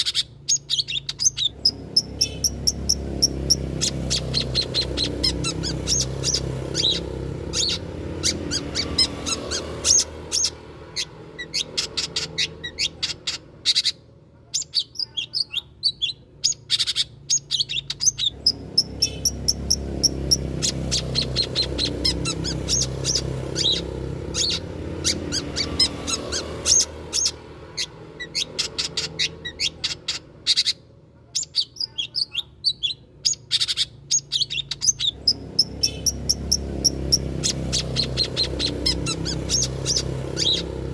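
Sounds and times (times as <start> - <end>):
bird chattering chirps: 0.0 - 40.9.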